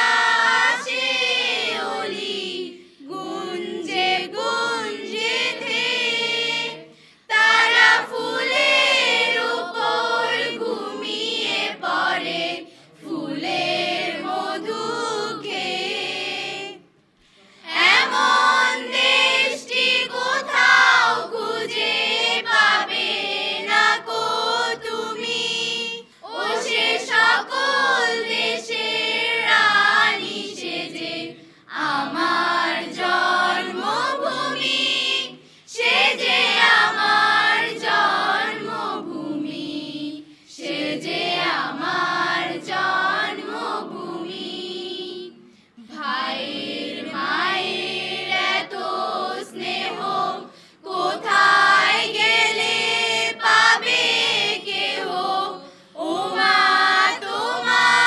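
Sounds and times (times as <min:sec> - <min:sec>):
choir singing unaccompanied: 0:00.0 - 0:17.0, 0:17.6 - 0:58.0.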